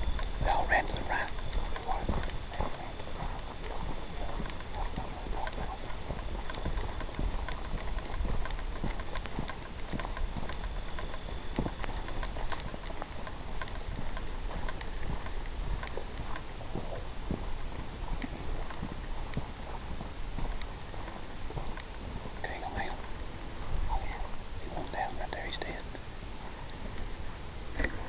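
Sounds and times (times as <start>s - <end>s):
footsteps crunching through dry stalks: 0.0s - 28.0s.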